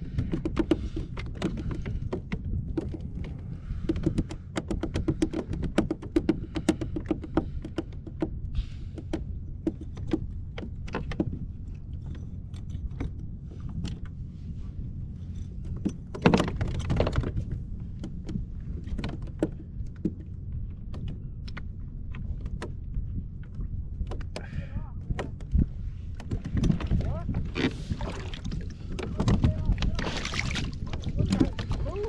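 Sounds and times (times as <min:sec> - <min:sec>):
fishing tackle clicks and knocks: 0:00.0 - 0:14.2, 0:15.2 - 0:27.1
wind and water rumble: 0:00.0 - 0:32.0.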